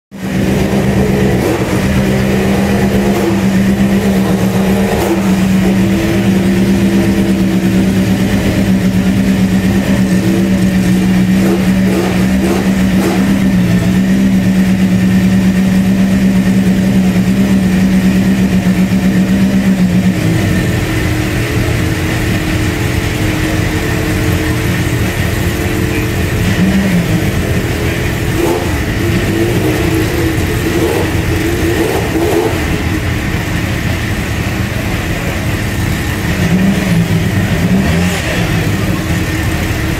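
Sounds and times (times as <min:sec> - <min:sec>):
rally car engines idling: 0:00.1 - 0:39.9
rough engine revving: 0:00.1 - 0:39.9.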